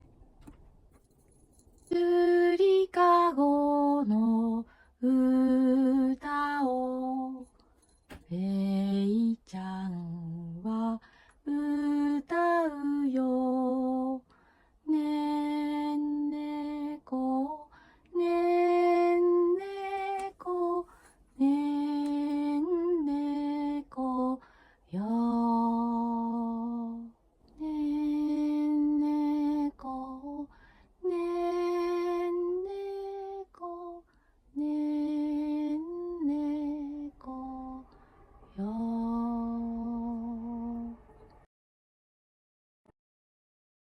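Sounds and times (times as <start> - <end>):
woman singing a lullaby: 1.8 - 7.5, 8.2 - 37.9, 38.5 - 41.1.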